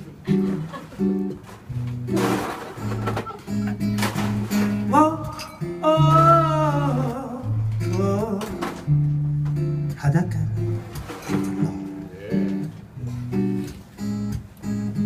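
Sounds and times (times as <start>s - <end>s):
acoustic guitar strumming: 0.1s - 15.0s.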